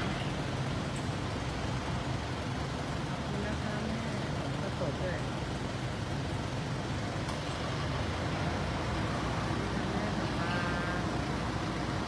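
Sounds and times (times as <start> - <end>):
low rumble of car park: 0.0 - 12.0.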